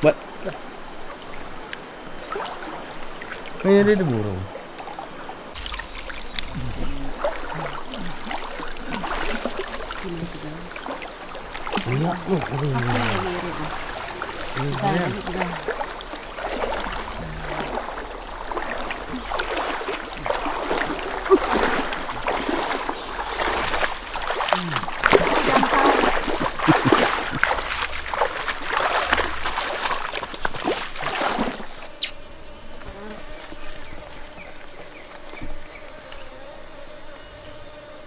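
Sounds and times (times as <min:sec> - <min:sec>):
water splashing and sloshing: 0:00.0 - 0:32.0
insect hum: 0:00.0 - 0:38.0.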